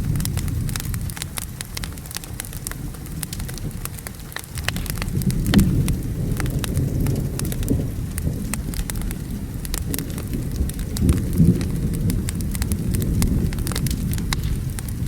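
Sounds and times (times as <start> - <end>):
low thunder rumble: 0.0 - 15.0
steady rain: 0.0 - 15.0
wood fire crackling and popping: 0.0 - 15.0.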